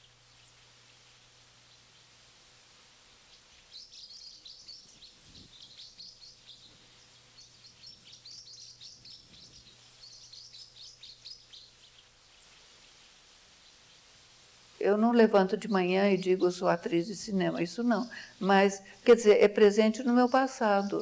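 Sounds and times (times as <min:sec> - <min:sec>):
faint steady hum: 0:00.0 - 0:21.0
songbird chirping rapidly: 0:03.2 - 0:14.2, 0:14.8 - 0:21.0.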